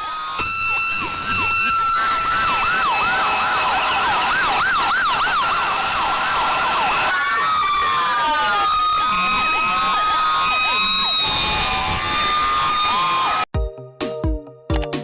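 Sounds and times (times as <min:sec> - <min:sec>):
electronic sirens wailing: 0:00.0 - 0:13.5.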